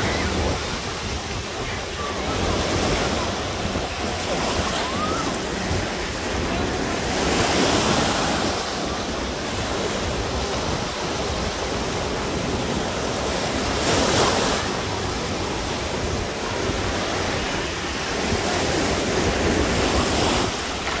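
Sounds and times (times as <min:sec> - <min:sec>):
small waves washing on shore: 0:00.0 - 0:21.0
wind buffeting microphone: 0:00.0 - 0:21.0.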